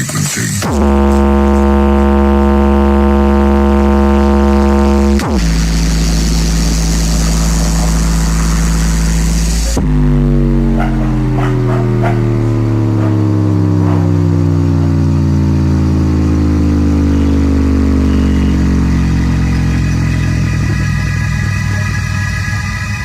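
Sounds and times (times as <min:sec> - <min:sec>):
deep droning tone from loudspeakers: 0:00.6 - 0:23.0.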